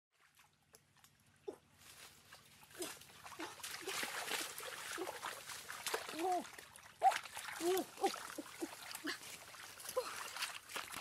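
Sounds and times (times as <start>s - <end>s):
splashing and trickling water: 0.1s - 11.0s.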